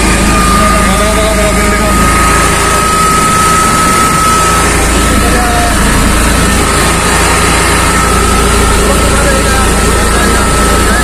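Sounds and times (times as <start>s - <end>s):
constant high whine: 0.0s - 11.0s
engine and road noise: 0.0s - 11.0s.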